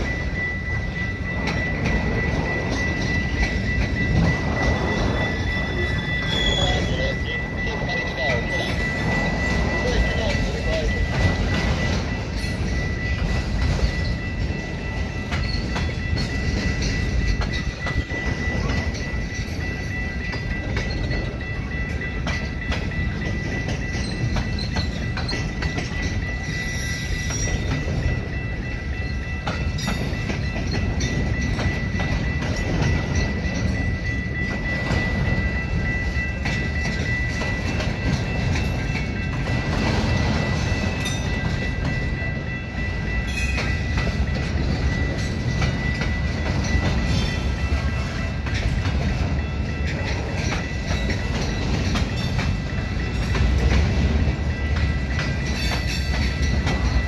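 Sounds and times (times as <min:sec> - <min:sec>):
steady high tone: 0:00.0 - 0:57.0
train wheels clicking over rail joints: 0:00.0 - 0:57.0.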